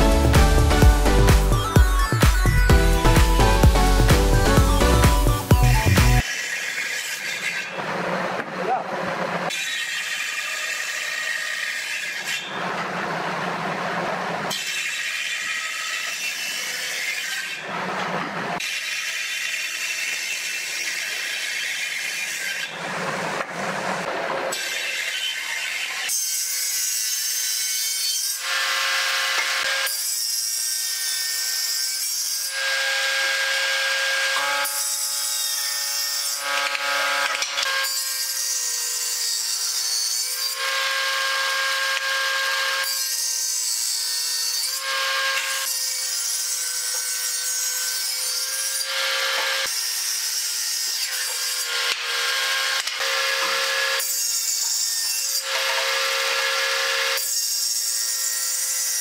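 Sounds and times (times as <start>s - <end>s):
saw blade cutting wood: 0.0s - 59.0s
table saw running: 0.0s - 59.0s.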